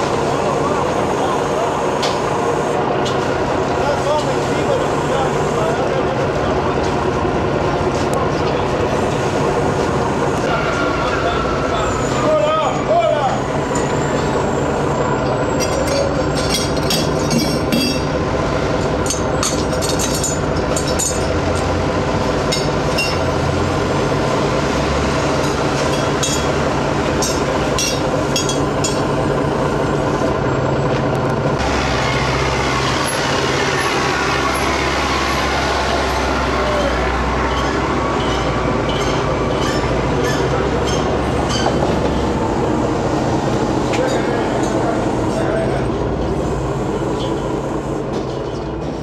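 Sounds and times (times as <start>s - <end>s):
engine machinery running: 0.0s - 49.0s.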